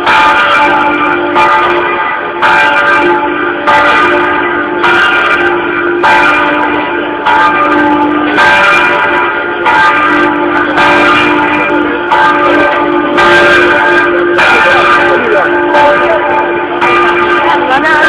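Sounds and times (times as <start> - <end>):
church bell ringing: 0.0 - 18.0.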